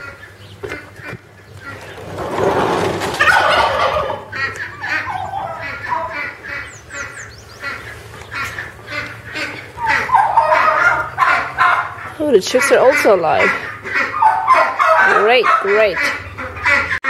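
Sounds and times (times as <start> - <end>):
ducks and poultry calling: 0.0 - 17.0.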